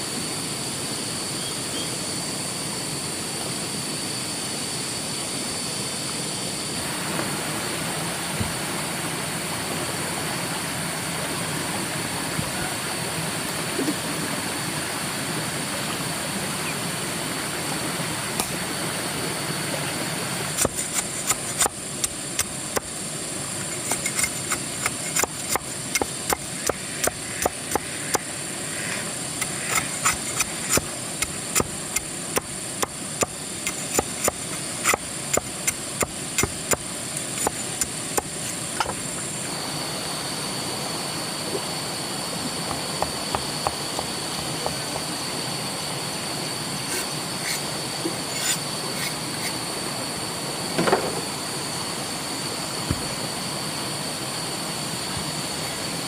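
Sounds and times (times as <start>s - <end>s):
steady hiss: 0.0s - 56.0s
thin high whine: 0.0s - 56.0s.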